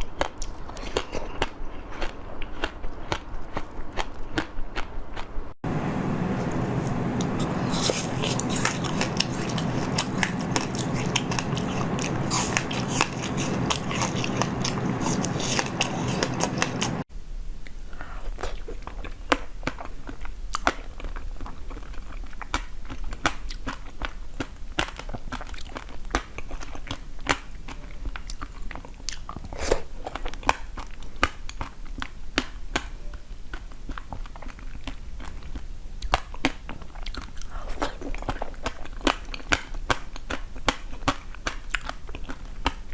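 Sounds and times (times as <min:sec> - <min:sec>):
chewing crunchy food: 0:00.0 - 0:05.4, 0:06.2 - 0:17.1, 0:18.0 - 0:42.9.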